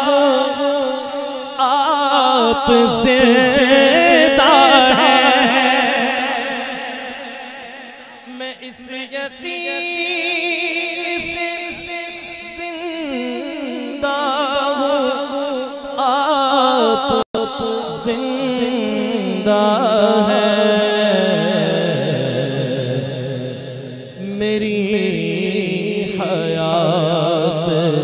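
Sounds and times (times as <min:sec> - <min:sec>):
man singing devotional song: 0:00.0 - 0:28.0.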